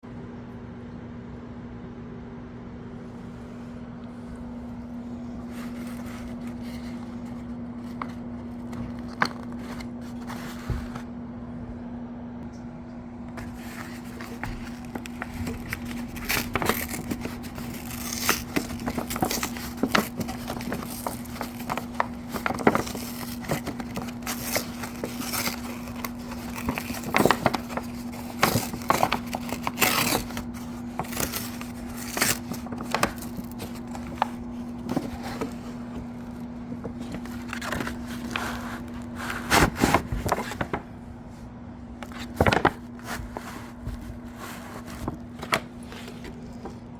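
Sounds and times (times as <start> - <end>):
steady low hum: 0.0 - 46.9
packaging rustling and crinkling: 5.2 - 11.1, 13.4 - 41.0, 42.0 - 46.9.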